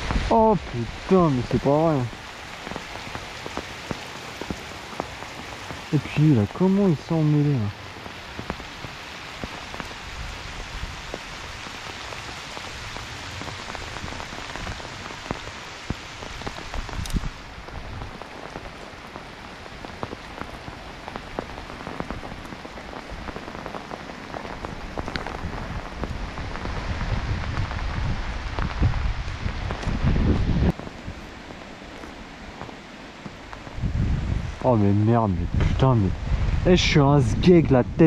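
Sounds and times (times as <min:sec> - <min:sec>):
wind rumble on microphone: 0:00.0 - 0:05.9, 0:07.8 - 0:18.8, 0:19.7 - 0:32.7, 0:33.5 - 0:38.0
rain falling: 0:00.0 - 0:38.0.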